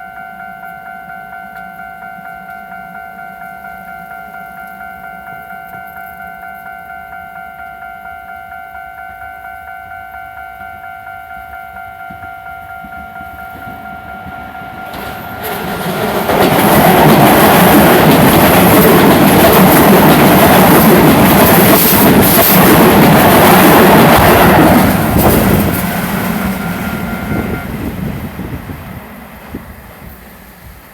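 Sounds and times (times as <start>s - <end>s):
level-crossing warning bell: 0.0s - 28.5s
trains rumbling and wheels clattering: 0.0s - 30.9s.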